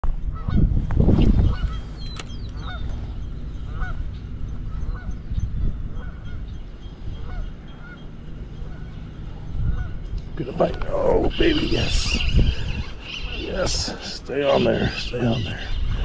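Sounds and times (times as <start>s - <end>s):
low rumble on microphone: 0.0s - 16.0s
geese honking: 0.3s - 0.7s, 1.4s - 16.0s.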